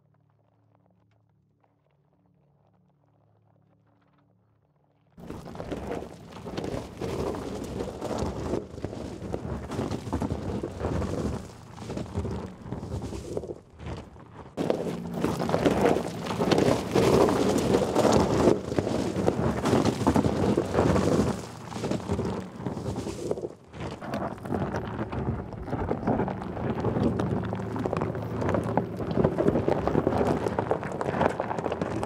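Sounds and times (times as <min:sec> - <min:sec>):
tyres crunching over gravel: 0:05.2 - 0:32.0.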